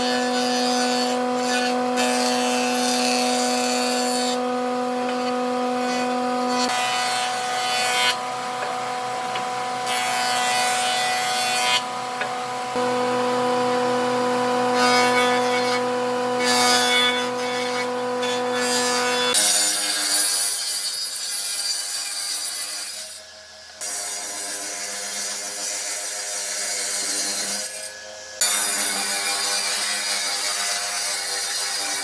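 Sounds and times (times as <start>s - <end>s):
power tool working wood: 0.0s - 21.2s, 22.2s - 32.0s.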